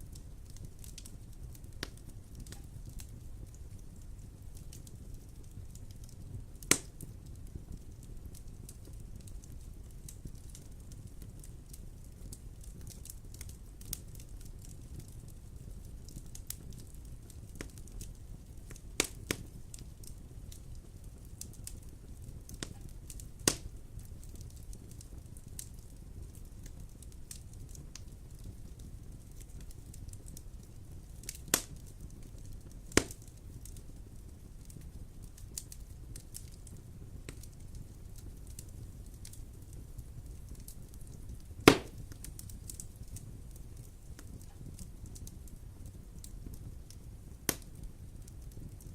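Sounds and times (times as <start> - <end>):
wood fire crackling: 0.0 - 48.9
sharp pops of fire: 0.1 - 48.9.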